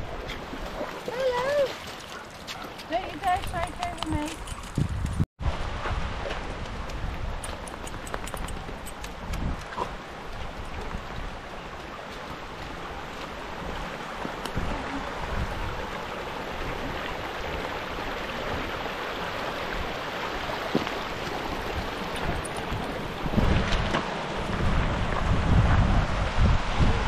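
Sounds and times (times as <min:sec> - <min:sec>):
wind buffeting microphone: 0:02.9 - 0:11.8, 0:12.4 - 0:27.0.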